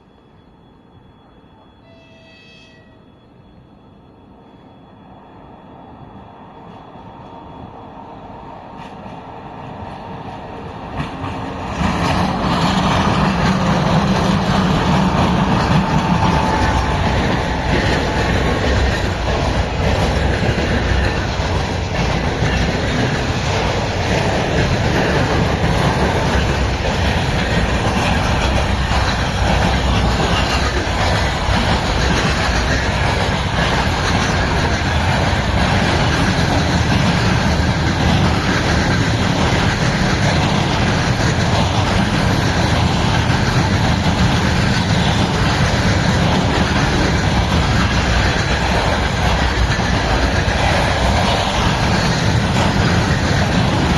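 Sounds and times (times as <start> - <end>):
freight train passing: 0.0 - 53.9.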